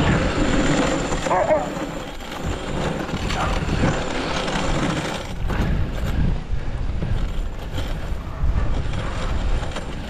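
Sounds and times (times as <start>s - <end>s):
sled jolting over bumps: 0.0s - 10.0s
sled runners scraping on snow: 0.0s - 10.0s.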